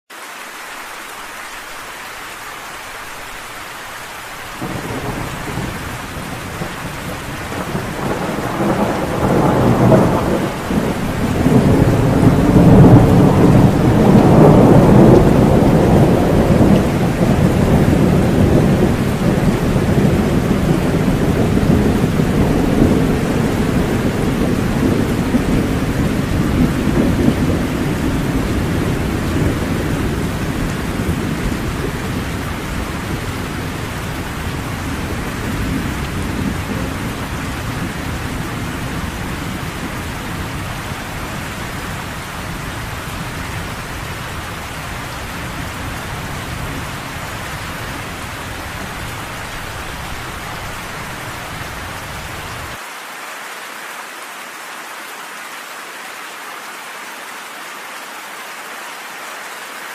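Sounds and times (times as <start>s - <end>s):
steady rain falling: 0.1s - 59.9s
rolling thunder: 4.6s - 52.8s.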